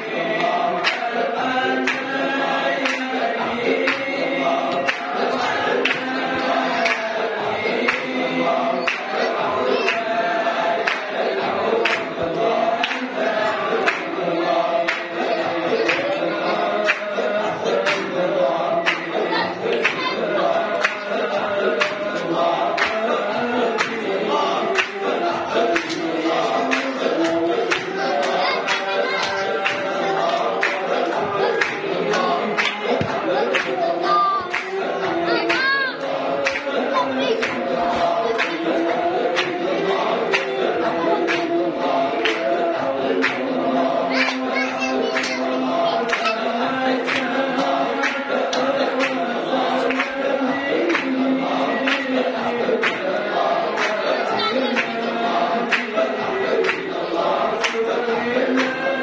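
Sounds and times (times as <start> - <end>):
men chanting together: 0.0 - 59.0
sharp hand claps: 0.1 - 9.2, 10.8 - 11.2, 11.8 - 16.2, 16.8 - 18.2, 18.8 - 20.1, 20.7 - 24.1, 24.7 - 42.6, 43.2 - 43.6, 44.2 - 55.0, 55.6 - 58.9.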